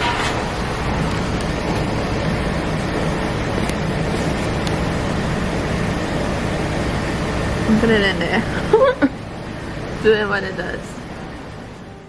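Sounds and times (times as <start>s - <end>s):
air conditioning blowing: 0.0s - 12.0s
car idling: 0.0s - 12.0s.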